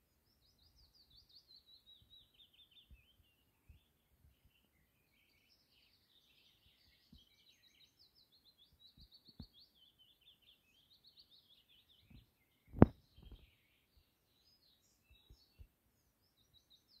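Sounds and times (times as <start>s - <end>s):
songbirds chirping and trilling: 0.0s - 17.0s.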